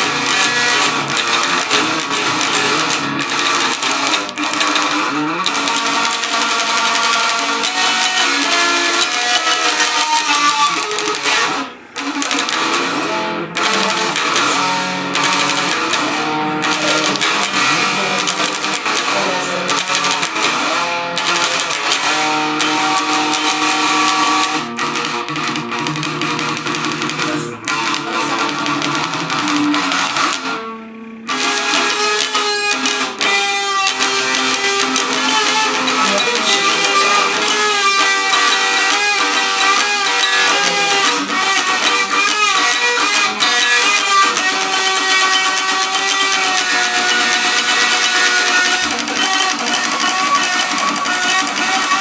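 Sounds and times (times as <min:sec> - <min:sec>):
metal music with electric guitar: 0:00.0 - 0:52.0.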